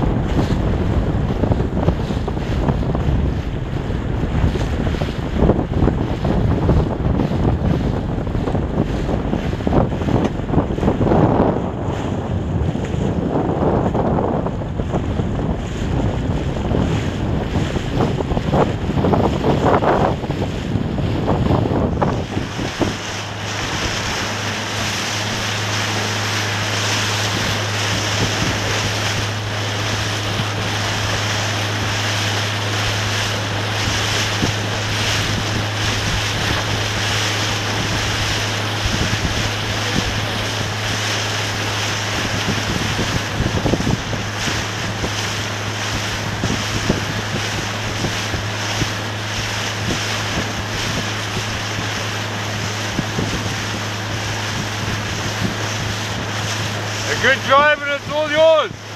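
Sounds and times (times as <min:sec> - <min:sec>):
steady low hum: 0:00.0 - 0:58.9
water rushing and splashing: 0:00.0 - 0:58.9
wind buffeting microphone: 0:00.0 - 0:58.9.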